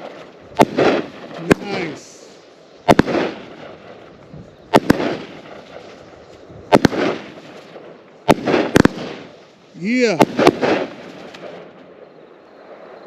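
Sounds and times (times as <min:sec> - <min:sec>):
firework reports: 0:00.0 - 0:13.0.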